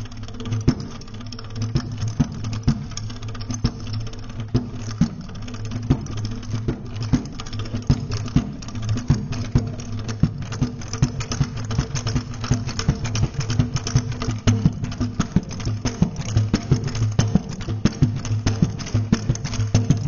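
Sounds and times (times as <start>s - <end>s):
drumbeats: 0.0s - 20.0s
rattling clatter: 0.0s - 20.0s.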